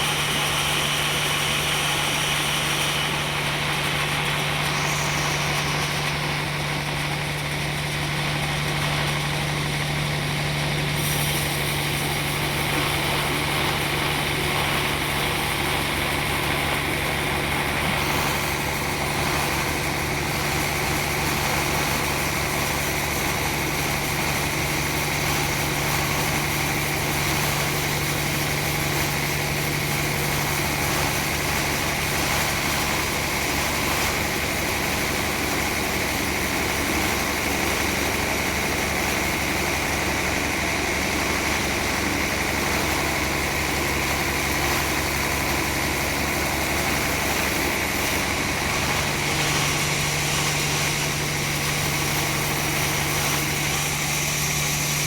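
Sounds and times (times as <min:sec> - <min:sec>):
sawmill machinery humming and whining: 0:00.0 - 0:55.0.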